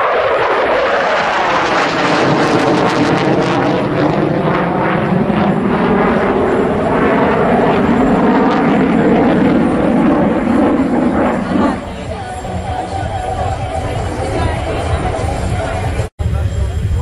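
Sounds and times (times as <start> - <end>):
fighter jet flying past: 0.0 - 17.0.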